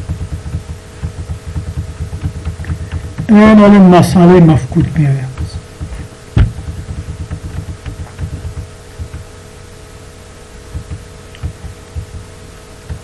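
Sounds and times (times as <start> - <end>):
electrical hum: 0.0 - 13.0
soft low thumps: 0.0 - 13.0.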